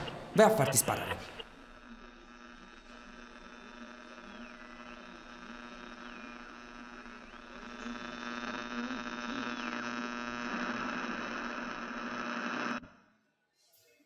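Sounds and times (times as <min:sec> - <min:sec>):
sliding radio whistling tones: 0:00.0 - 0:12.8
radio static hiss and hum: 0:00.0 - 0:12.9.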